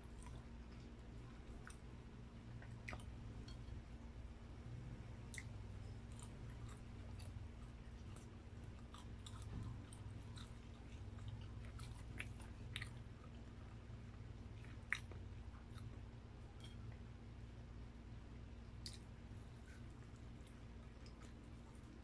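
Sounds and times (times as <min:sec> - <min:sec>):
chewing meat: 0:00.0 - 0:04.0, 0:04.7 - 0:17.1, 0:18.6 - 0:22.0
steady low hum: 0:00.0 - 0:22.0.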